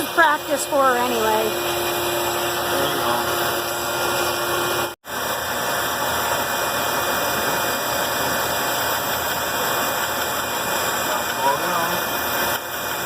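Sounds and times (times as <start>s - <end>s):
band saw cutting a board: 0.0s - 13.0s.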